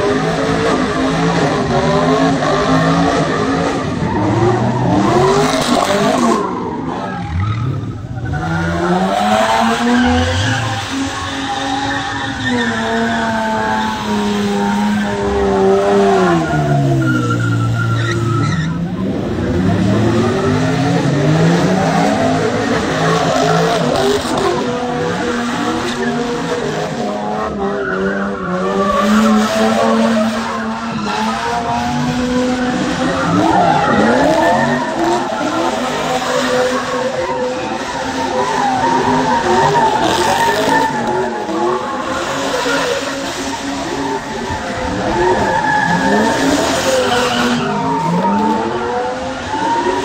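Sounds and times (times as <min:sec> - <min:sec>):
car engines revving: 0:00.0 - 0:50.0
tires squealing on asphalt: 0:00.0 - 0:50.0.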